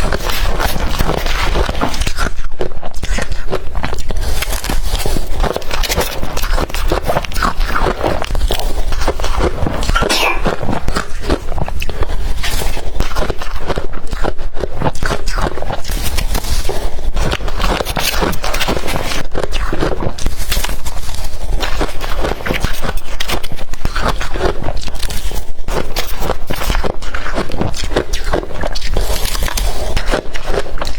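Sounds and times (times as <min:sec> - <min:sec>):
ice being chewed: 0:00.0 - 0:30.9.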